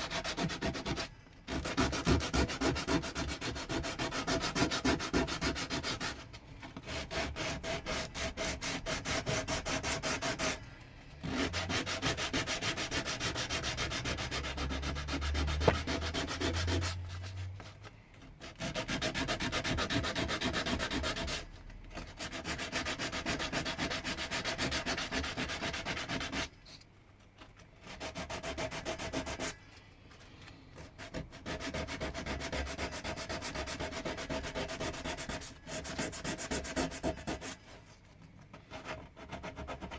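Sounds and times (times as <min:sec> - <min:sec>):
wood sanding by hand: 0:00.0 - 0:06.2, 0:06.8 - 0:10.6, 0:11.2 - 0:17.4, 0:18.4 - 0:21.5, 0:22.2 - 0:26.5, 0:27.8 - 0:29.5, 0:31.0 - 0:37.6, 0:38.7 - 0:39.9.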